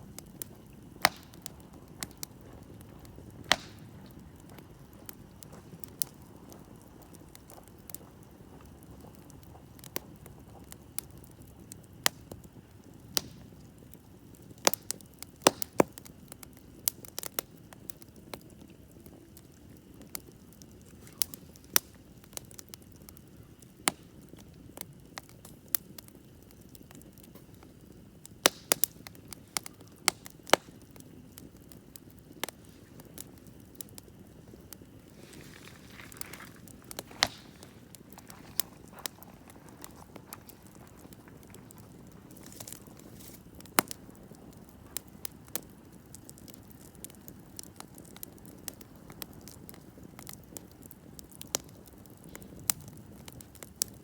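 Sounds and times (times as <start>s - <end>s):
campfire crackling and popping: 0.0s - 54.0s
soft hiss of burning: 0.0s - 54.0s.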